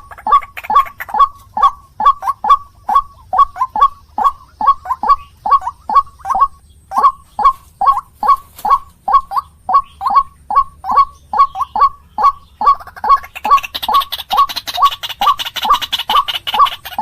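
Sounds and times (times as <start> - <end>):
waterhen calling harsh notes: 0.0 - 17.0.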